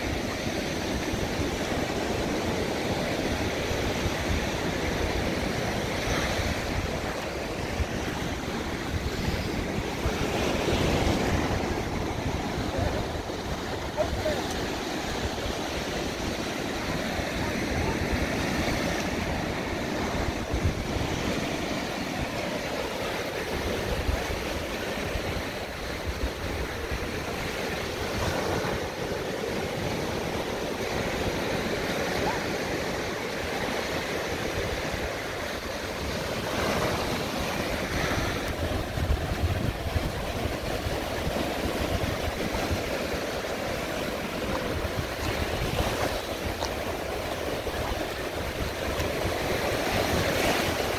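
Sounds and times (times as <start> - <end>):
surf breaking and washing: 0.0 - 50.9
wind rumbling on microphone: 0.0 - 50.9.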